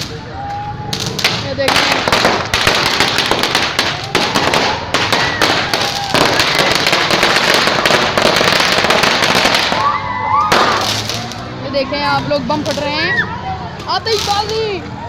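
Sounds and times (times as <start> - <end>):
firecrackers bursting: 0.0 - 13.2, 13.8 - 14.8.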